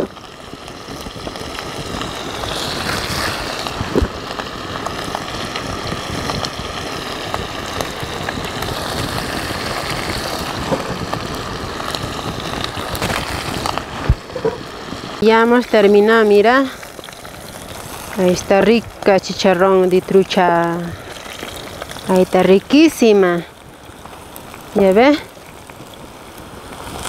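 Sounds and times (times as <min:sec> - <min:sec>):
fish sizzling in oil: 0:00.0 - 0:27.0
wind rumbling on microphone: 0:00.8 - 0:22.8.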